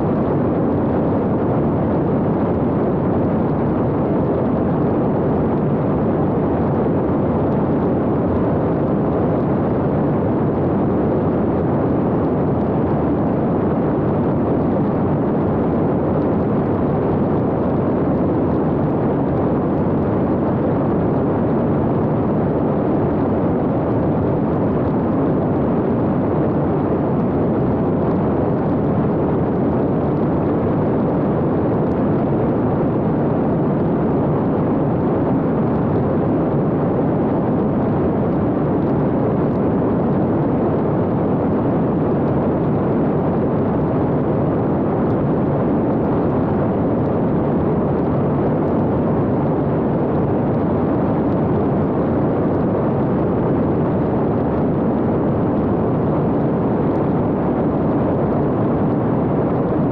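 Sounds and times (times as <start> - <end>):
drone airflow and propeller rush: 0.0 - 59.9.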